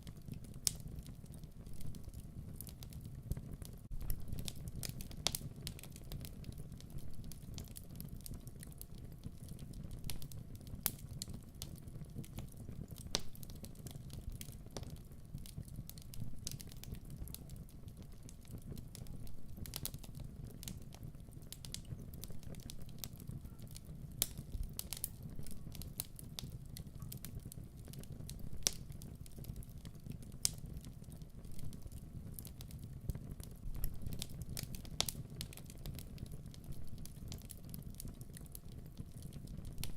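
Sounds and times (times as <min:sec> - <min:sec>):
low rumble of burning: 0:00.0 - 0:39.9
sharp snaps and pops: 0:00.0 - 0:39.9
wood fire crackling: 0:00.0 - 0:39.9.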